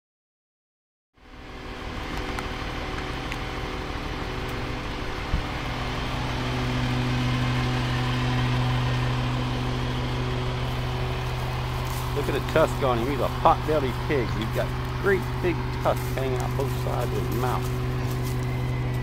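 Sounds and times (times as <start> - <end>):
truck engine running: 1.2 - 19.0.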